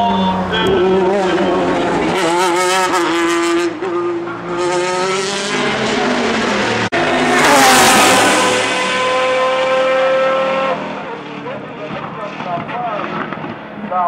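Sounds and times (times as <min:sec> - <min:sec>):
race car engine: 0:00.0 - 0:14.0
car passing close: 0:00.4 - 0:13.6.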